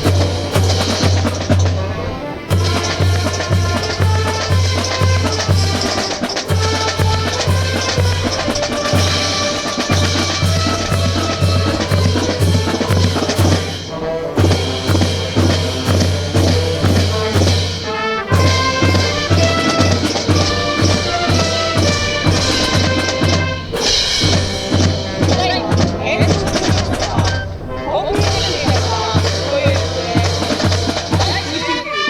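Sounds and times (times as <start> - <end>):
bass drum beat: 0.0 - 1.8, 2.5 - 27.6, 28.2 - 31.7
marching brass band: 0.0 - 32.0.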